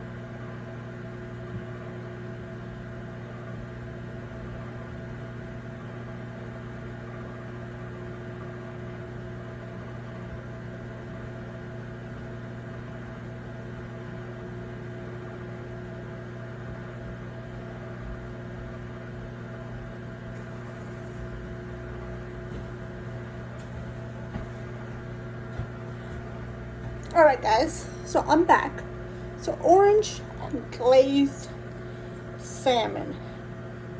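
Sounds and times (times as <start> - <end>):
appliance or fan humming: 0.0 - 33.9.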